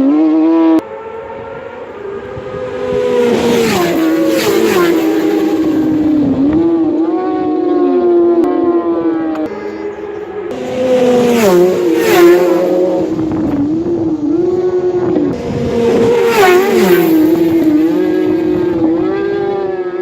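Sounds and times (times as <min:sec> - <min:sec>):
superbike engine passing at speed: 0:00.0 - 0:20.0.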